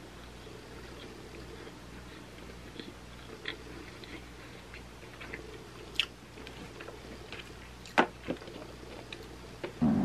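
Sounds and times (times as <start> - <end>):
low steady hum: 0.0 - 10.0
person chewing: 0.1 - 9.4.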